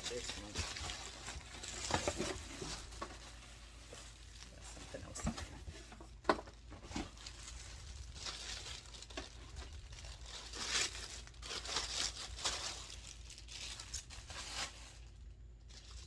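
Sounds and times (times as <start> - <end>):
packaging wrap crinkling: 0.0 - 5.2, 6.1 - 16.0.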